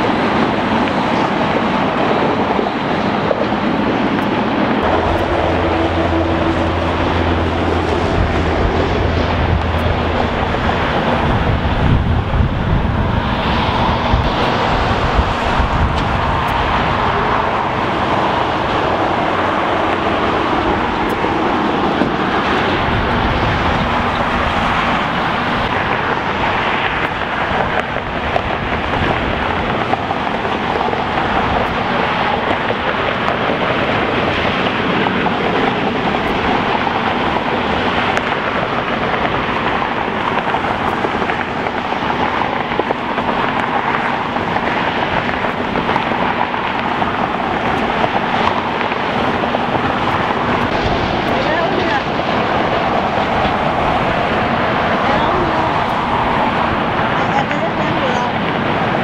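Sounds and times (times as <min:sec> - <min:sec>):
jet engine roar: 0:00.0 - 0:59.0
wind on microphone: 0:00.0 - 0:59.0.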